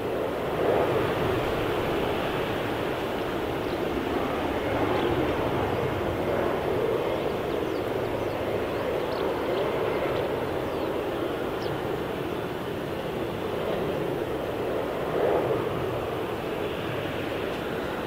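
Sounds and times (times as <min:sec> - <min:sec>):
airplane engine rushing: 0:00.0 - 0:18.0.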